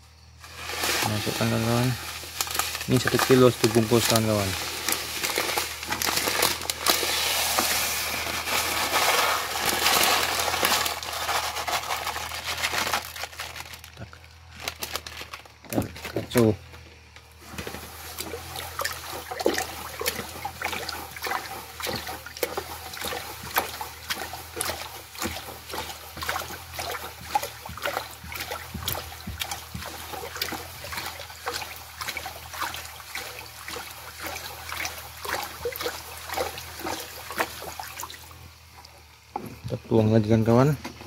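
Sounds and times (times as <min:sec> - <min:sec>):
hand sloshing water in bucket: 0:00.4 - 0:13.8, 0:17.3 - 0:40.8.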